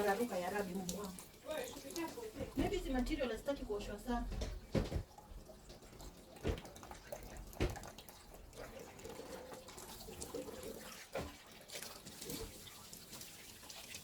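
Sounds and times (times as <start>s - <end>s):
water splashing in a sink: 0.0s - 14.0s.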